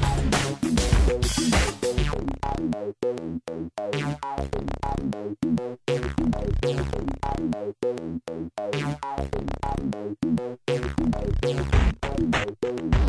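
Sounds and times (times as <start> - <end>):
chopped synthesizer music with beat: 0.0 - 13.0.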